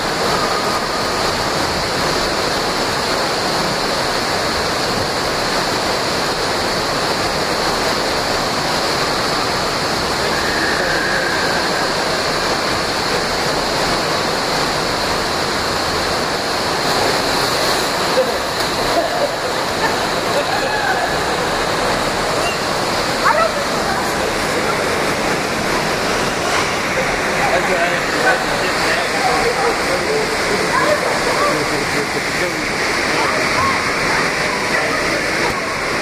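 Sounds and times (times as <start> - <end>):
water pouring into pool: 0.0 - 36.0.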